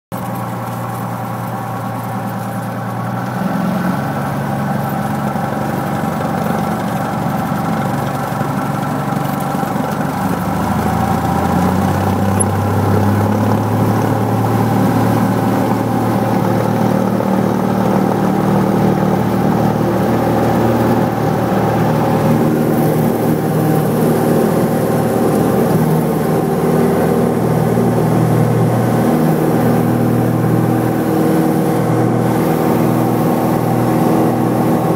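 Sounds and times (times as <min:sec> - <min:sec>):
light airplane engine running: 0:00.1 - 0:34.9.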